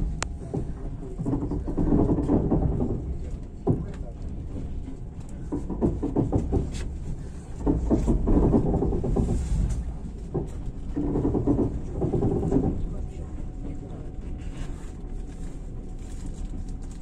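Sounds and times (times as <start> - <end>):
train carriage rumble: 0.0 - 17.0
wheels clicking over rail joints: 0.1 - 17.0.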